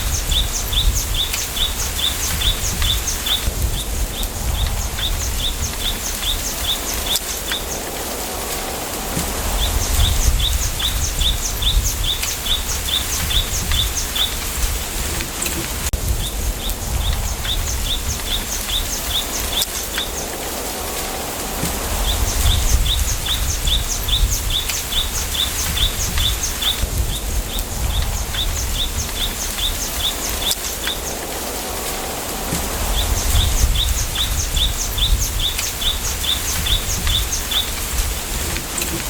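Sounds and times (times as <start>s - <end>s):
bird chirping: 0.0s - 8.0s, 9.1s - 20.4s, 21.6s - 31.3s, 32.5s - 39.0s
low wind rumble: 0.0s - 39.0s.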